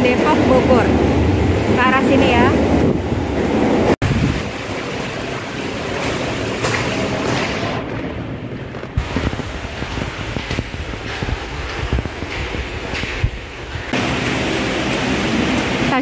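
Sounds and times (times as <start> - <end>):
wind buffeting microphone: 0.0 - 6.1, 7.0 - 16.0.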